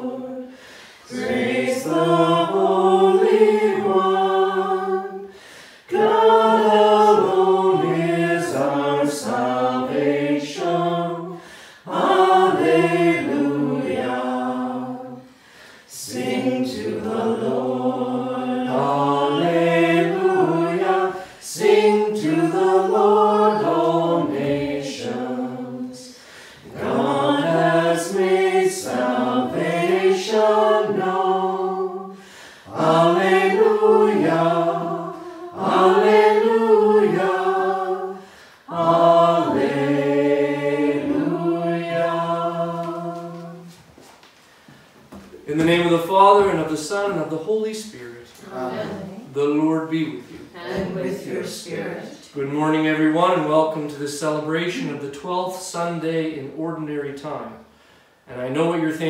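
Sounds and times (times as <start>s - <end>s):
voices singing a hymn: 0.0s - 59.0s.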